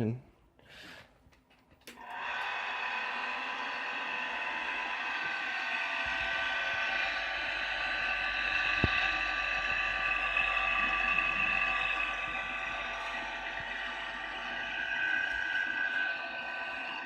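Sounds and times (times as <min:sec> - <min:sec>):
pump whining: 0:01.9 - 0:17.0.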